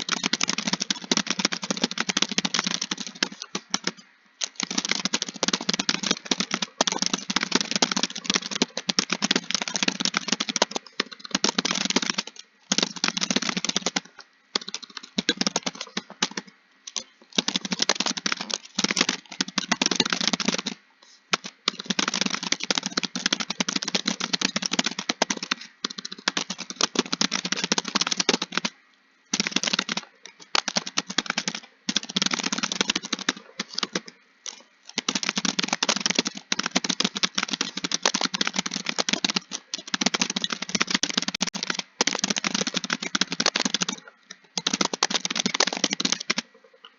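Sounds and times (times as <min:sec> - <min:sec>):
fast typing on keyboard: 0:00.0 - 0:46.7.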